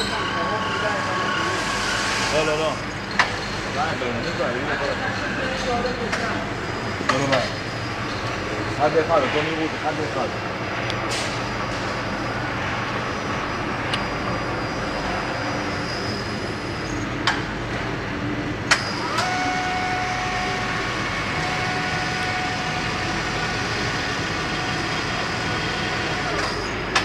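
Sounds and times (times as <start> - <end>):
factory machinery humming: 0.0 - 27.0
steady machine whine: 0.0 - 27.0.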